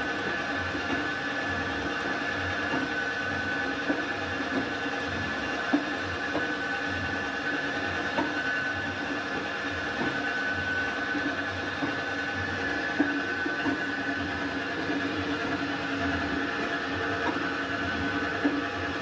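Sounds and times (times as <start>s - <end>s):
metal lathe whining: 0.0s - 19.0s.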